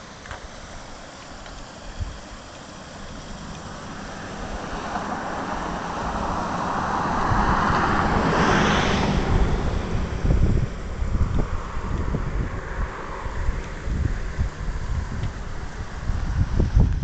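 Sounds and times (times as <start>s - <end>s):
vehicle passing with road noise: 0.0s - 17.0s
wind gusts on microphone: 1.8s - 17.0s.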